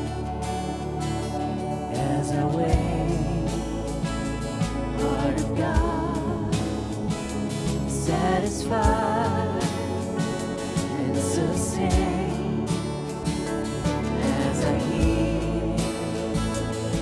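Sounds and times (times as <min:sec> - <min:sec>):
worship band playing: 0:00.0 - 0:17.0.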